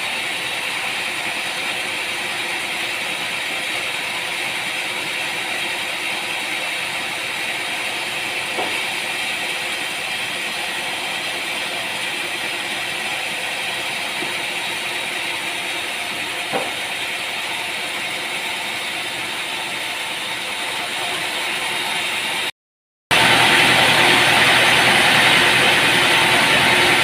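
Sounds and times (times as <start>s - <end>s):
sawmill machinery whirring: 0.0s - 22.5s, 23.1s - 27.0s.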